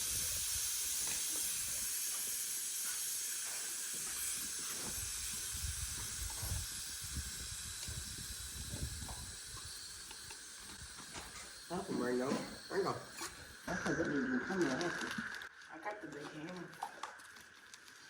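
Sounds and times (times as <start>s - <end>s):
air hissing out of tire: 0.0s - 15.5s.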